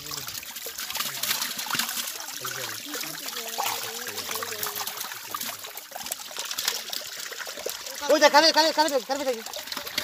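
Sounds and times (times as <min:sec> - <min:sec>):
fish thrashing and splashing: 0:00.0 - 0:10.0
water trickling and dripping: 0:00.0 - 0:10.0.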